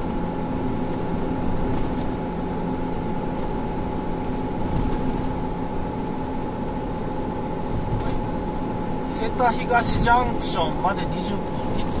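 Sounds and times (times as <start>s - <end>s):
car road and engine noise: 0.0s - 12.0s
faint constant hum: 0.0s - 12.0s.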